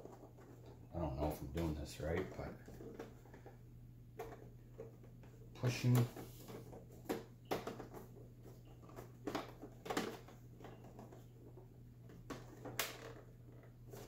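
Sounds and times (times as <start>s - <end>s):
low steady hum: 0.0s - 14.0s
soft knocks and clicks on plastic: 2.1s - 14.0s.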